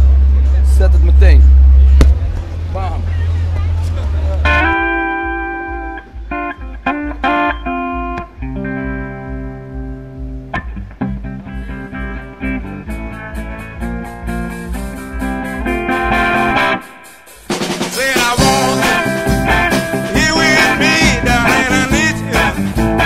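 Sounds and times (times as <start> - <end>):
fast high ticking rhythm: 4.4 - 23.0
guitar-led instrumental music: 4.4 - 23.0.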